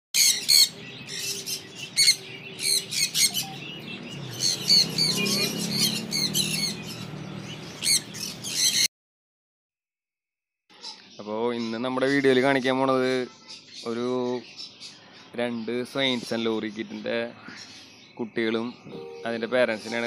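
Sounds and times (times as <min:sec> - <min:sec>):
lorikeets screeching: 0:00.2 - 0:08.9, 0:10.7 - 0:20.0.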